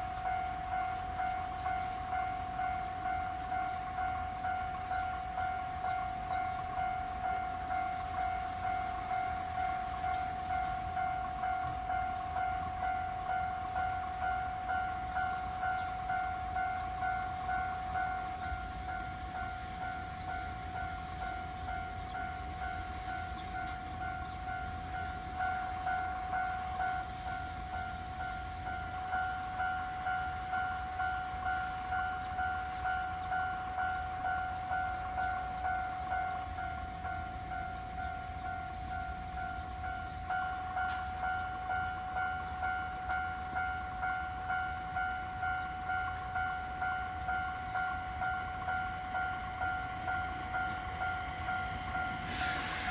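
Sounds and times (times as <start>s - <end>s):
level crossing warning bell: 0.0s - 52.9s.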